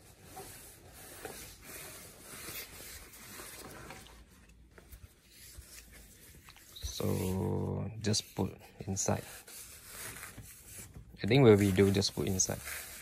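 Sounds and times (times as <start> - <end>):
fabric rustling and rubbing: 0.0 - 13.0.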